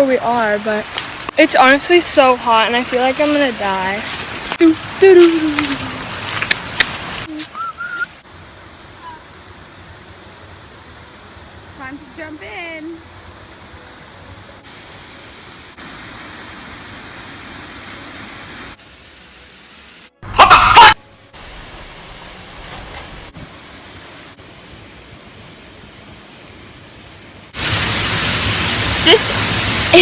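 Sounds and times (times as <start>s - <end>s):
waterfall rushing: 0.0s - 18.8s, 23.3s - 30.0s.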